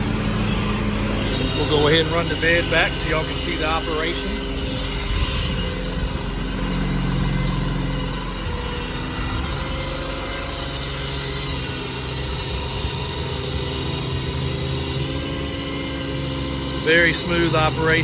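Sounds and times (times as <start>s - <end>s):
diesel engine running: 0.0s - 18.0s
hydraulic pump working: 0.0s - 18.0s.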